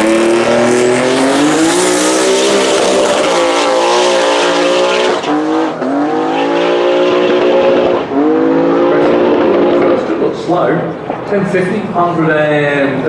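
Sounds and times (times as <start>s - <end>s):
race car engine at full throttle: 0.0s - 12.2s.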